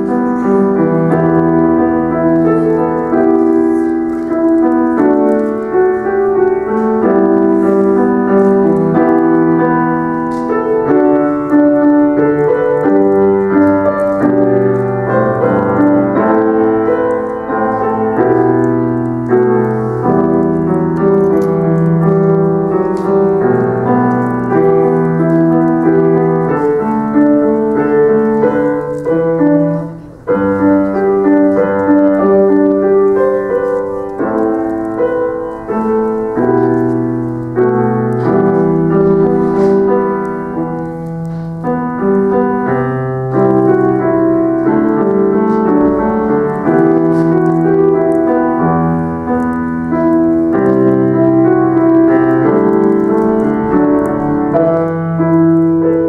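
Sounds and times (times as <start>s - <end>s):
solo grand piano playing: 0.0s - 56.0s.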